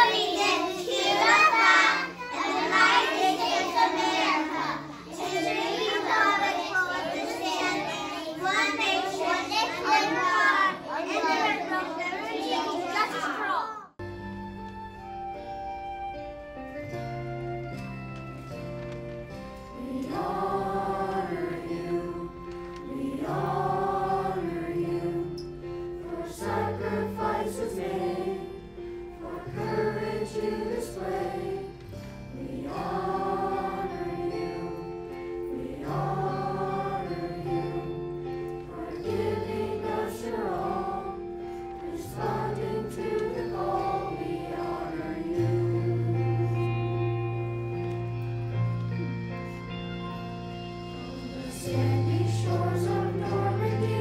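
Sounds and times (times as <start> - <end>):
choir singing: 0.0 - 13.6, 19.8 - 48.2, 48.8 - 54.0.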